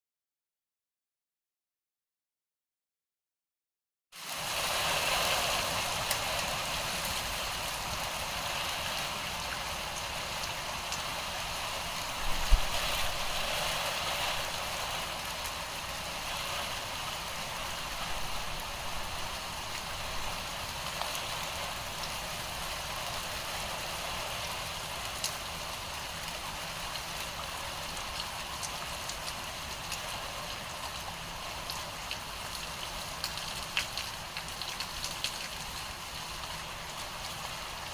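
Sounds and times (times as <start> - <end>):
steady rain falling: 4.2 - 37.9.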